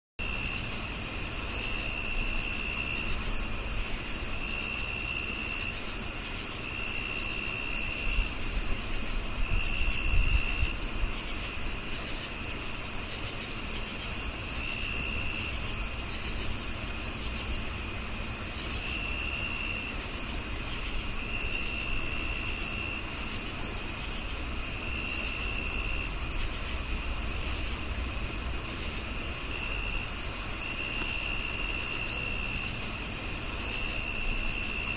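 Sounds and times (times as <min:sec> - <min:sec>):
crickets chirping: 0:00.2 - 0:34.9
lower cricket trill: 0:00.2 - 0:34.9.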